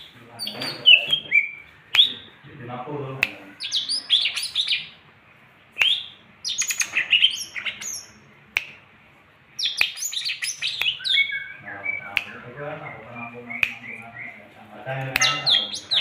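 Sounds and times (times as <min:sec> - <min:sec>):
songbirds chirping and twittering: 0:00.0 - 0:16.0.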